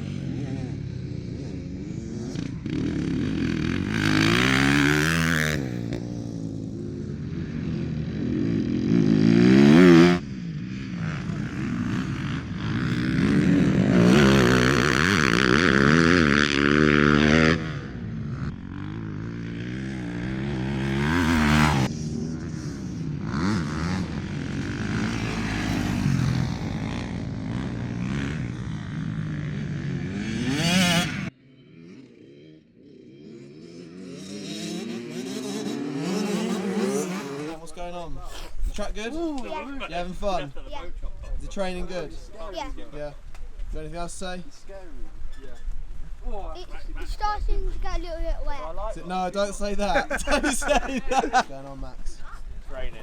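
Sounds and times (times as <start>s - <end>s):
motocross engines revving: 0.0s - 53.0s.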